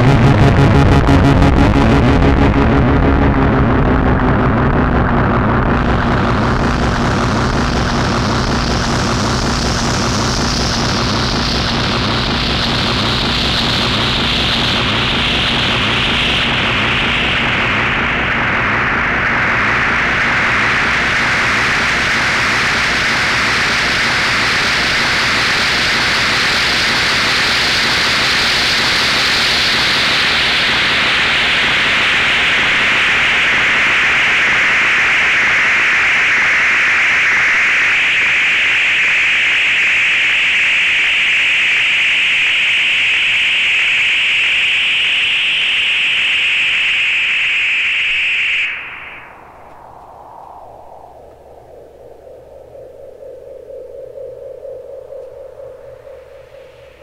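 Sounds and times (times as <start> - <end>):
synthesizer noise hiss and rumble: 0.0 - 57.0.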